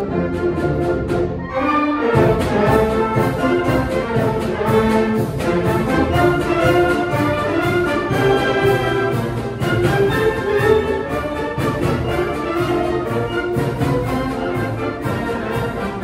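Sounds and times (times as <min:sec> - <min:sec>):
concert band playing: 0:00.0 - 0:16.0
percussion beat: 0:02.2 - 0:16.0.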